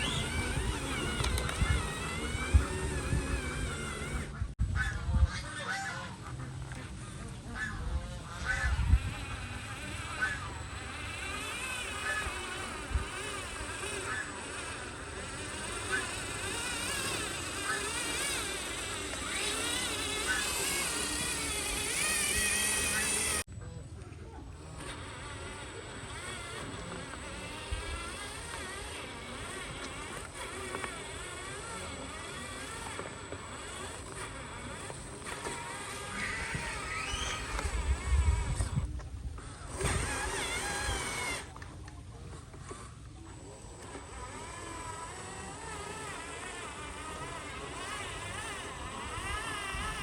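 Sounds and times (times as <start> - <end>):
small electric motors whining: 0.0 - 50.0.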